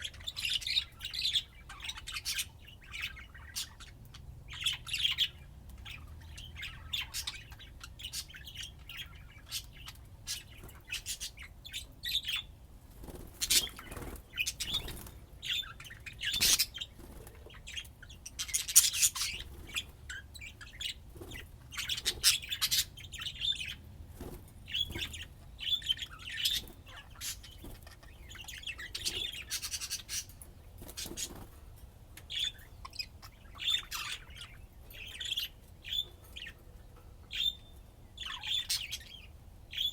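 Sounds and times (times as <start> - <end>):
budgerigars chirping: 0.0 - 31.6, 32.2 - 39.9.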